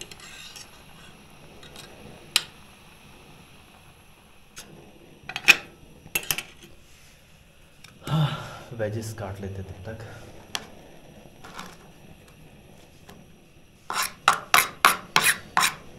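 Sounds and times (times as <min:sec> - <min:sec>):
faint steady hiss: 0:00.0 - 0:15.9.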